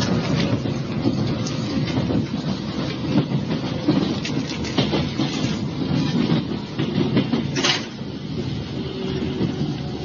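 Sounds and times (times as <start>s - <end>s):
rattles and clicks: 0.0s - 8.1s
train wheels rumbling: 0.0s - 10.0s.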